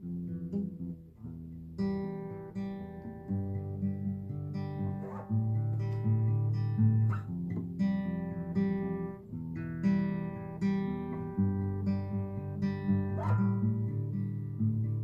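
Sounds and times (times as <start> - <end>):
acoustic guitar strumming chords: 1.8 - 15.0.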